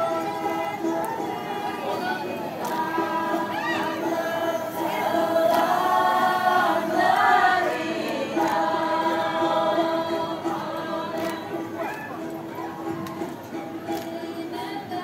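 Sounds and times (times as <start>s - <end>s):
women singing in choir: 0.0s - 15.0s.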